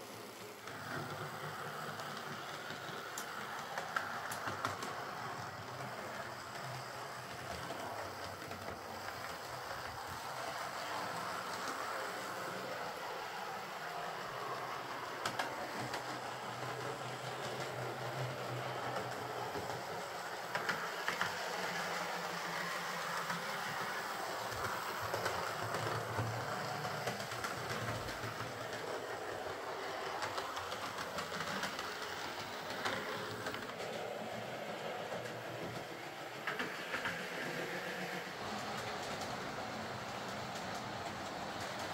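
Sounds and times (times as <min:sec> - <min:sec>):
model train motor hum: 0:00.1 - 0:41.9.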